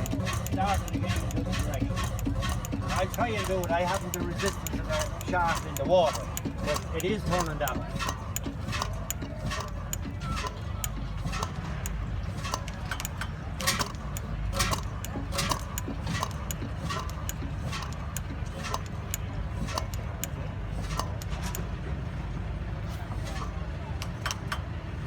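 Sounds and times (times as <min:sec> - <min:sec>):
stationary engine running slowly: 0:00.0 - 0:25.0.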